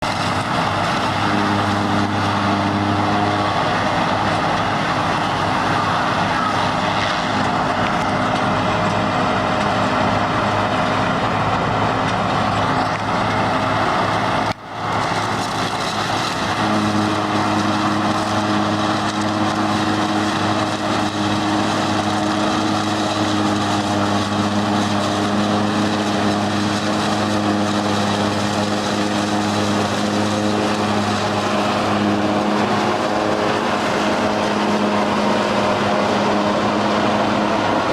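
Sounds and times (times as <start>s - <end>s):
combine harvester running: 0.0s - 37.9s.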